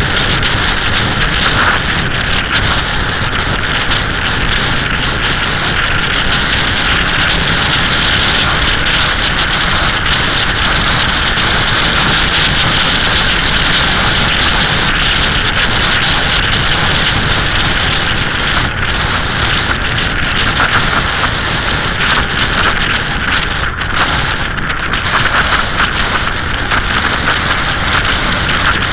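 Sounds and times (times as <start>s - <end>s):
motorcycle engine and tyre noise: 0.0s - 28.9s
wind rush over microphone: 0.0s - 28.9s.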